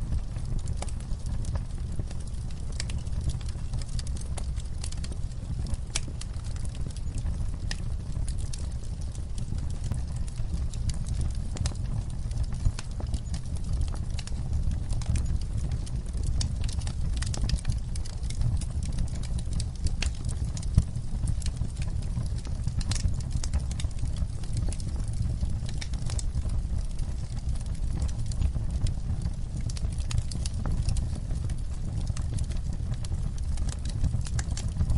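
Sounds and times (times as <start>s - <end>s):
campfire crackling: 0.0s - 34.9s
steady low rumble: 0.0s - 34.9s.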